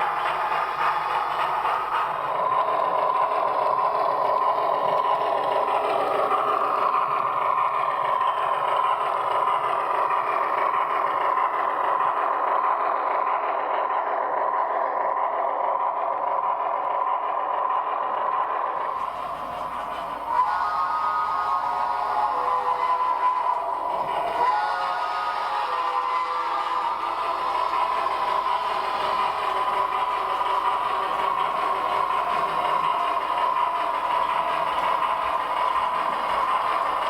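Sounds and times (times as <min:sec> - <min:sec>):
model steam locomotive chuffing: 0:00.0 - 0:37.0.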